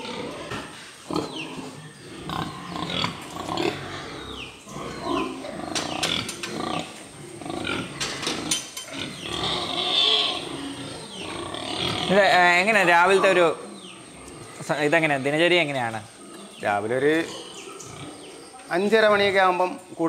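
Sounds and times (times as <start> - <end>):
pigs grunting and squealing: 0.0 - 19.5.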